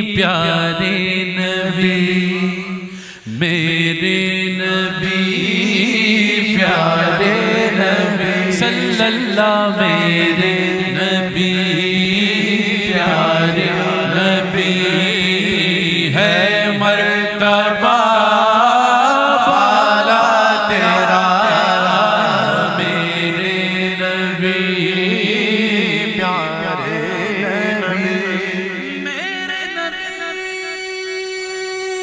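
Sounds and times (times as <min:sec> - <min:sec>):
man singing unaccompanied: 0:00.0 - 0:32.0
low vocal drone: 0:01.0 - 0:30.5.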